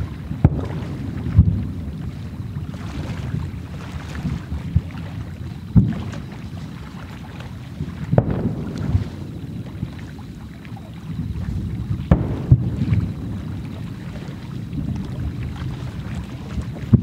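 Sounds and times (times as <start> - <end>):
distant fireworks thudding: 0.0 - 17.0
wind rumbling on microphone: 0.0 - 17.0.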